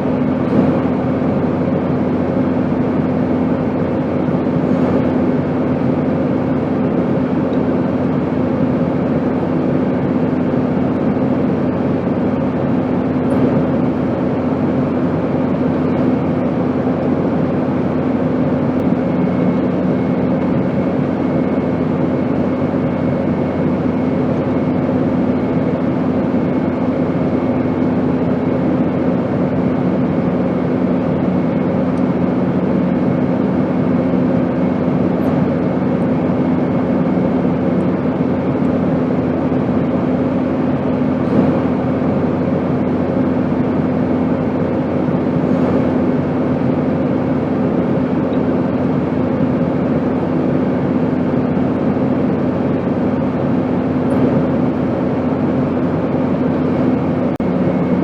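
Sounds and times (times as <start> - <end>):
airplane drone: 0.0 - 58.0
second lower hum: 0.0 - 58.0.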